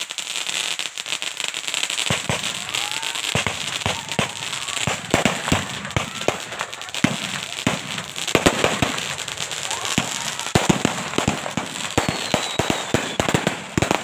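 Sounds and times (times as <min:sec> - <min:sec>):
crackling hiss: 0:00.0 - 0:14.0
firecrackers popping: 0:00.0 - 0:14.0.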